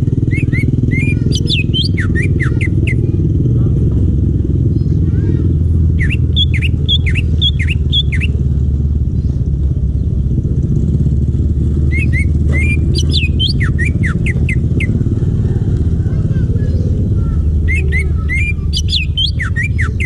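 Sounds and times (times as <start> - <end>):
bird calling: 0.0 - 3.5, 4.7 - 10.2, 10.8 - 20.0
steady low rumble: 0.0 - 20.0.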